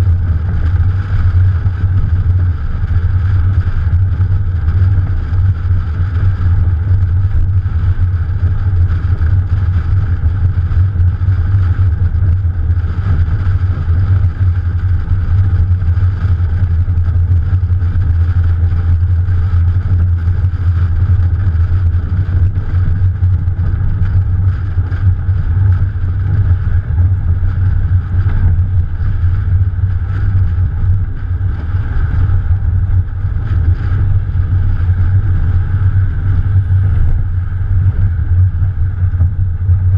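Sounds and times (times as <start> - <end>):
car engine: 0.0 - 39.9
road noise: 0.0 - 39.9
wind rumble on microphone: 0.0 - 39.9.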